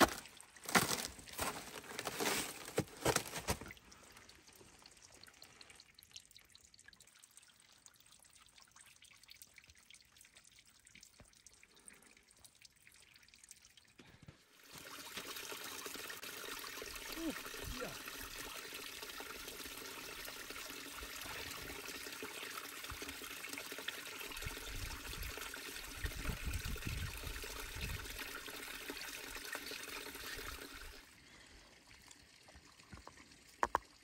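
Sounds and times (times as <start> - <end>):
water trickling: 0.0 - 34.0.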